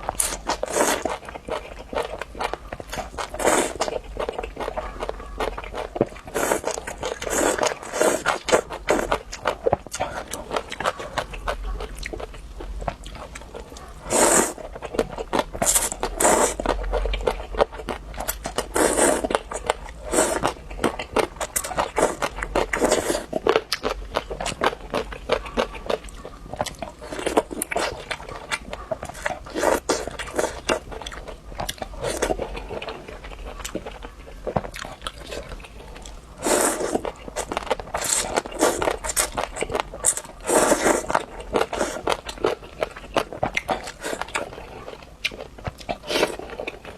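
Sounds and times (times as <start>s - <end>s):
person chewing crispy food: 0.0s - 46.9s.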